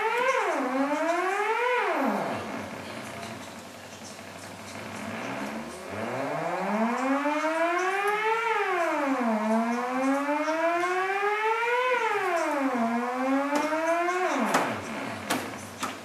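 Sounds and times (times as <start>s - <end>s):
synthesizer note gliding in pitch: 0.0s - 3.3s, 4.6s - 15.3s.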